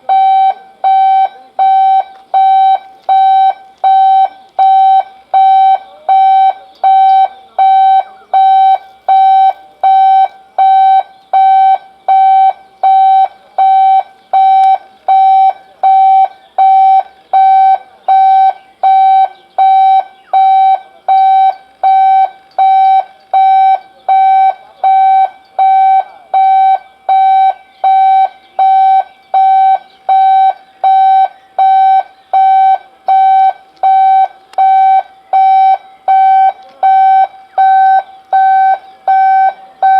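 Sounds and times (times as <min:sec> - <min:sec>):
electronic warning beeps: 0:00.0 - 0:39.9.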